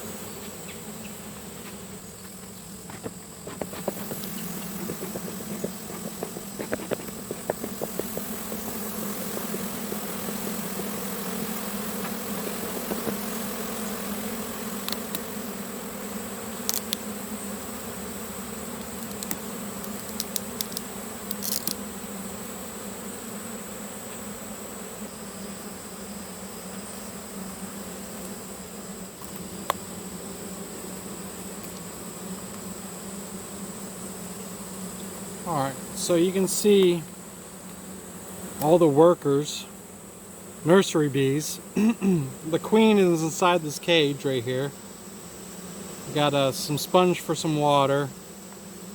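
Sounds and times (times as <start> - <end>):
honeybees buzzing: 0.0 - 48.9.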